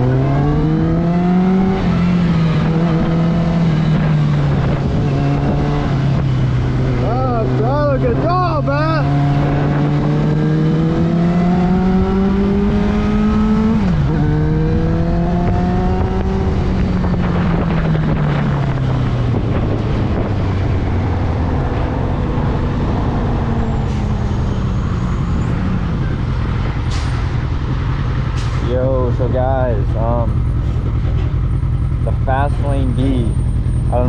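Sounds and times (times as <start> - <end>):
motorcycle engine accelerating: 0.0 - 34.0
wind and road noise: 0.0 - 34.0.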